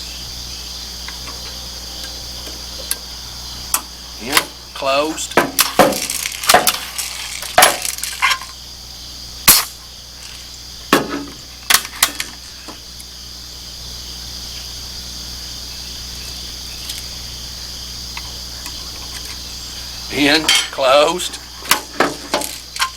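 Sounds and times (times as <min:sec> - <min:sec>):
insect trilling: 0:00.0 - 0:22.9.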